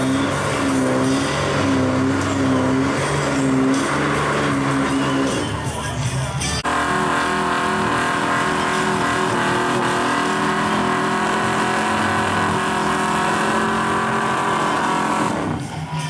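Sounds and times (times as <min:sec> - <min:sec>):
truck engine at high revs: 0:00.0 - 0:16.0.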